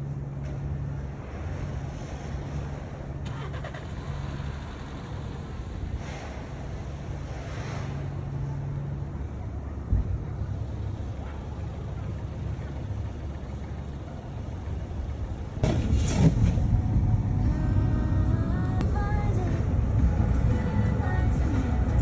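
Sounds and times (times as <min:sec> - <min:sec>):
road traffic rumbling: 0:00.0 - 0:22.0
vehicle passing: 0:00.1 - 0:22.0.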